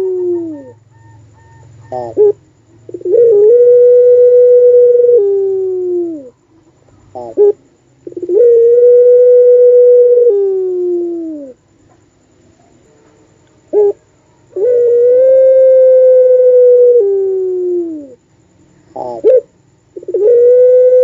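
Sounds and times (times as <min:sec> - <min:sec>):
dove cooing: 0:00.0 - 0:11.6, 0:13.7 - 0:18.2, 0:18.9 - 0:21.0.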